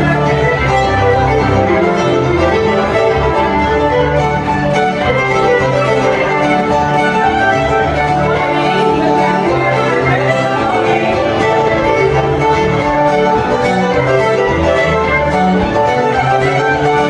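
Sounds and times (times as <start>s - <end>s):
fiddle tune: 0.0s - 17.0s
guitar accompaniment: 0.0s - 17.0s.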